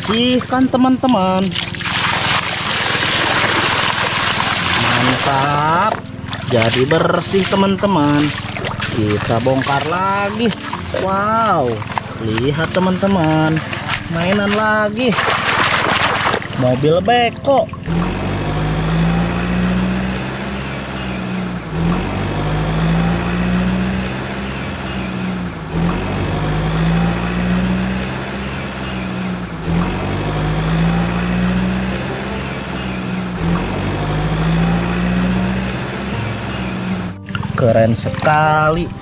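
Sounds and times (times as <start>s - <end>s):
looped low drone: 0.0s - 39.0s.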